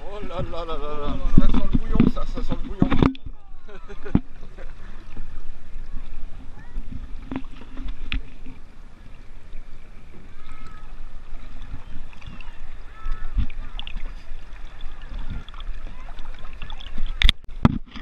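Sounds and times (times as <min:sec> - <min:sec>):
faint distant voices: 0:00.0 - 0:07.9, 0:08.8 - 0:17.4
river water lapping: 0:00.0 - 0:18.0.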